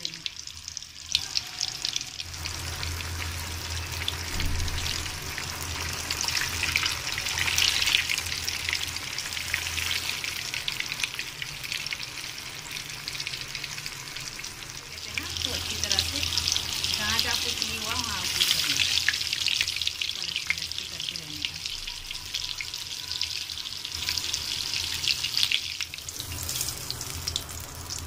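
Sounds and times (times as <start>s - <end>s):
food deep-frying in hot oil: 0.0s - 28.0s.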